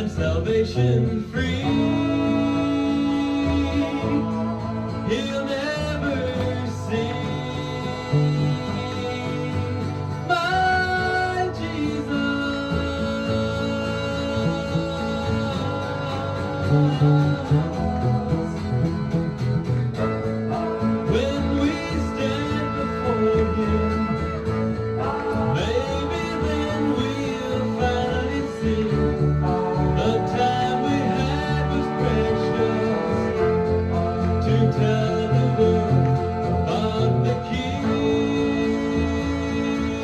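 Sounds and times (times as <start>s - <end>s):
plucked guitar: 0.0s - 40.0s
steady bass: 0.0s - 40.0s.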